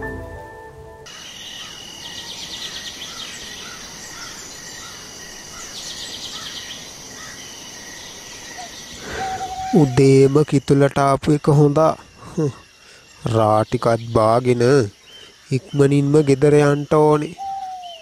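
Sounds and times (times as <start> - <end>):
insects droning: 0.0 - 18.0
birds chirping: 1.1 - 18.0.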